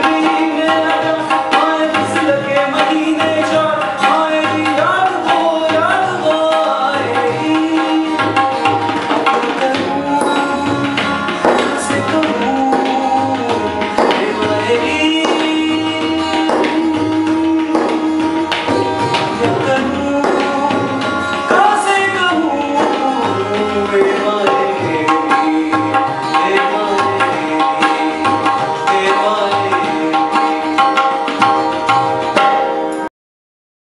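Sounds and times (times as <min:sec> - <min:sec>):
acoustic guitar chording: 0:00.0 - 0:33.1
tabla drumming: 0:00.0 - 0:33.1.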